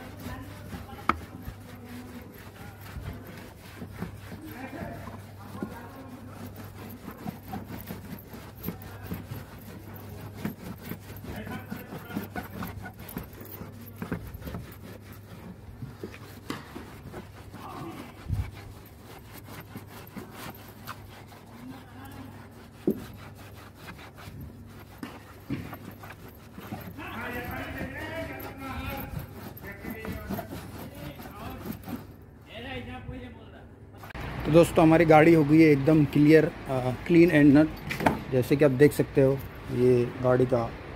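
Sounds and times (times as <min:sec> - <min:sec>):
cloth rubbing on plastic panel: 0:00.0 - 0:32.7, 0:34.0 - 0:40.9.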